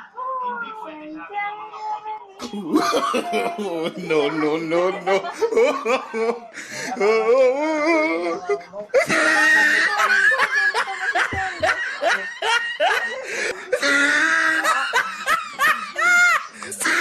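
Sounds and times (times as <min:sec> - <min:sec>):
people laughing and shrieking: 0:02.8 - 0:17.0.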